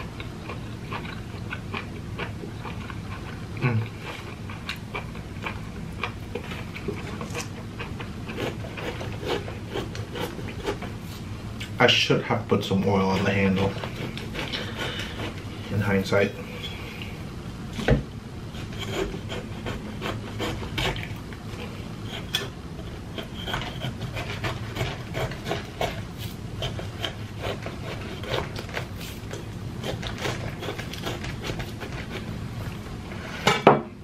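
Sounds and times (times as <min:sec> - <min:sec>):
knife cutting and scraping fruit: 0:00.0 - 0:11.3, 0:12.6 - 0:33.6.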